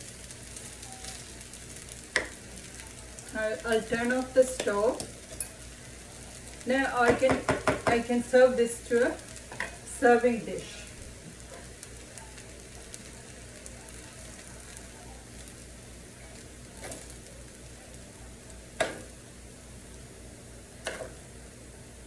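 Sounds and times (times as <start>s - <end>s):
rice sizzling in a skillet: 0.0s - 22.0s.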